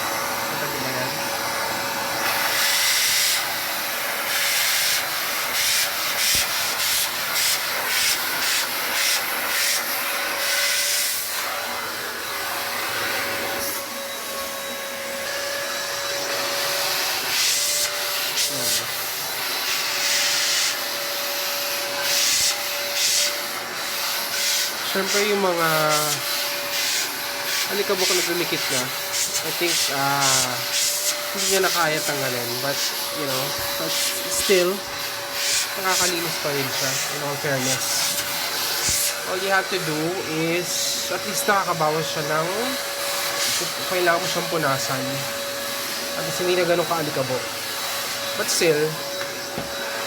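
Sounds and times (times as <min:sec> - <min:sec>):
vacuum cleaner running: 0:00.0 - 0:50.0.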